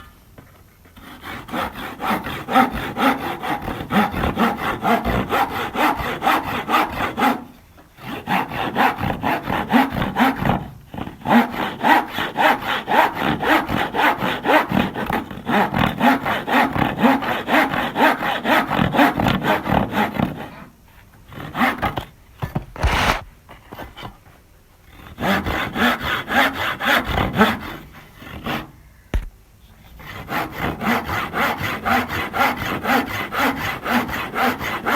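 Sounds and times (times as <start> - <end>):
hand saw cutting wood: 1.0 - 20.7, 21.3 - 22.1, 22.8 - 24.1, 24.9 - 28.7, 30.0 - 34.9.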